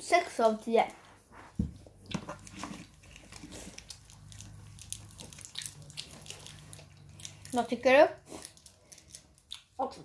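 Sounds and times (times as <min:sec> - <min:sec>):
child chewing candy: 0:01.8 - 0:10.0.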